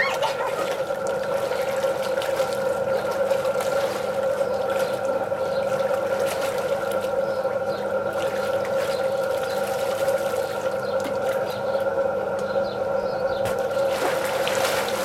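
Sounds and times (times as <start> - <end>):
water splashing and sloshing: 0.0 - 12.4, 13.4 - 15.0
steady multi-pitch hum: 0.0 - 15.0.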